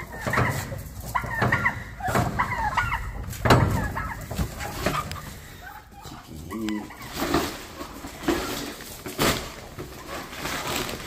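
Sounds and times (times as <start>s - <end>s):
chickens clucking: 0.0s - 10.7s.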